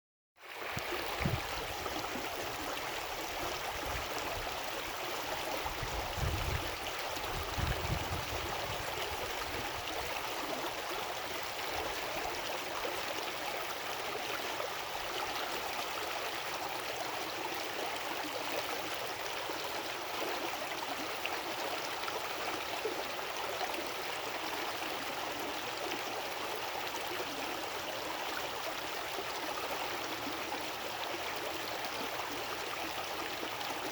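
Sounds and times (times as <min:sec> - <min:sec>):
brook water rushing and gurgling: 0:00.4 - 0:33.9.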